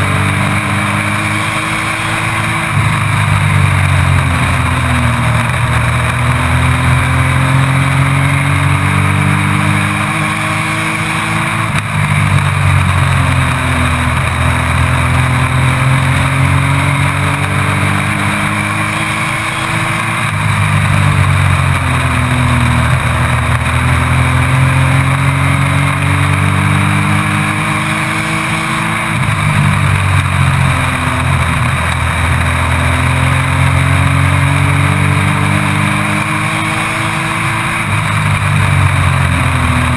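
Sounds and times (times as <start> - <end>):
race truck engine: 0.0 - 39.9.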